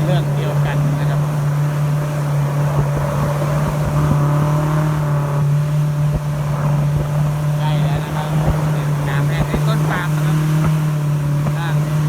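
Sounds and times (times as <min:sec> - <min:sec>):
speedboat engine droning: 0:00.0 - 0:12.0.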